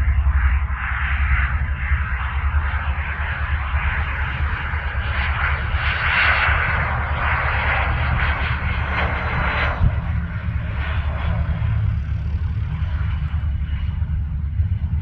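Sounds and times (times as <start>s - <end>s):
jet engines running: 0.0s - 15.0s
steady low rumble: 0.0s - 15.0s.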